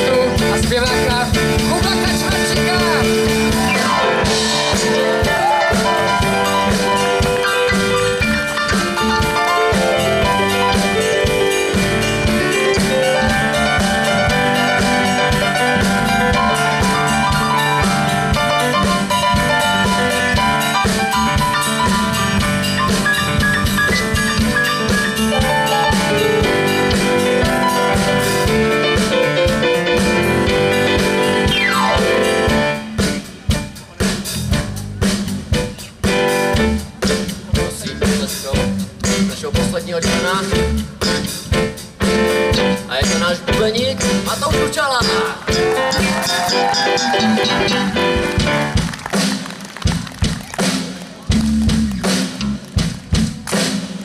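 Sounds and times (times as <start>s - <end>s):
pop-rock band playing: 0.0s - 54.0s.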